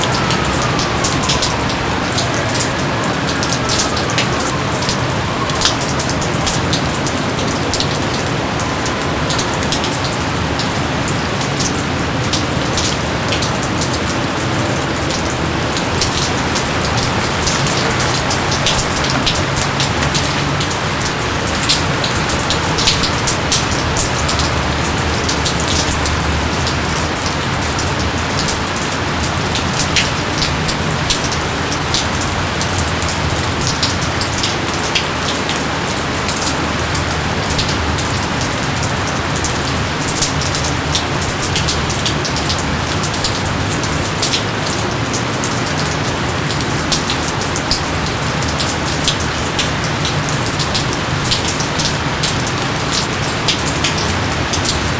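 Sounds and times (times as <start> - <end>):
heavy rain on foliage: 0.0 - 54.9
raindrop splats: 0.0 - 54.9.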